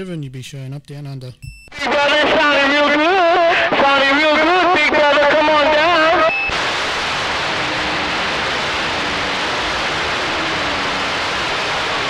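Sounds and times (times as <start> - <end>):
radio static hiss: 1.8 - 12.0.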